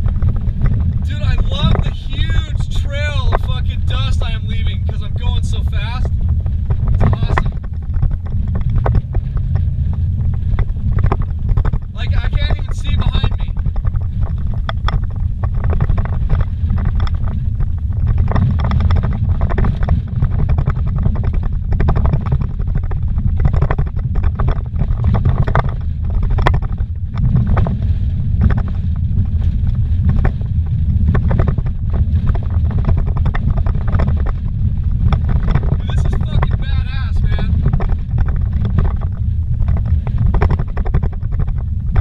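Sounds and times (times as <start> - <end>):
vehicle engine and tyres rumbling: 0.0 - 42.0
vehicle knocks and rattles: 0.0 - 42.0.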